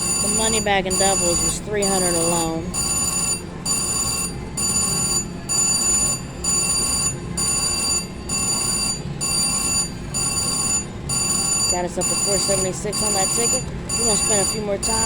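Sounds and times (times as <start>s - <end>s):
slot machine bell ringing: 0.0s - 15.0s.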